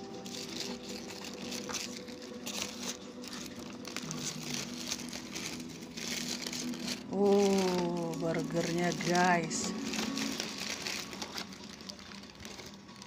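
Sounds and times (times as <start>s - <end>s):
paper wrapper crinkling: 0.0s - 13.0s.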